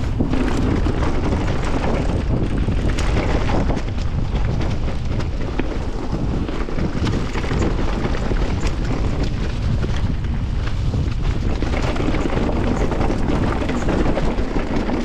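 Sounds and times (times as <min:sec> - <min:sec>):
bike clicks and rattles: 0:00.0 - 0:15.0
bike tyres rolling on dirt: 0:00.0 - 0:15.0
wind on microphone: 0:00.0 - 0:15.0.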